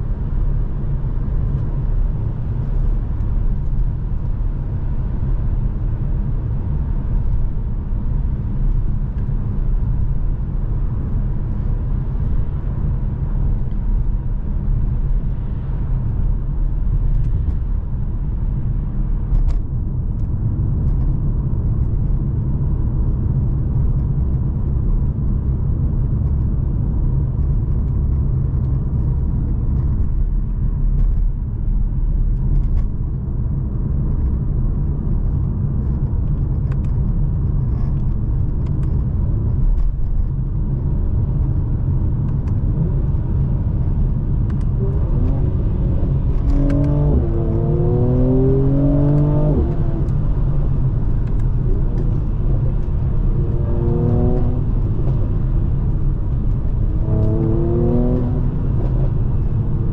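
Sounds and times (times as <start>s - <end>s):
car engine rumbling: 0.0s - 59.9s
road noise: 0.0s - 59.9s.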